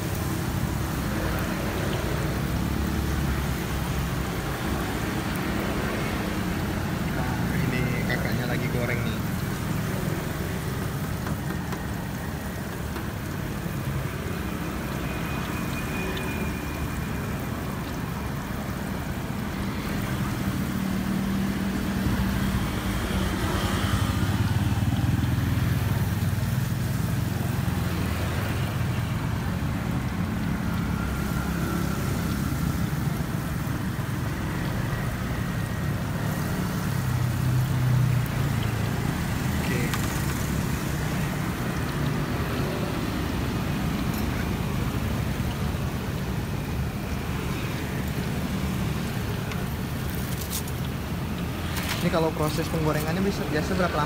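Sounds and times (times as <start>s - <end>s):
food sizzling in hot oil: 0.0s - 54.0s
passing vehicles rumbling: 0.0s - 54.0s.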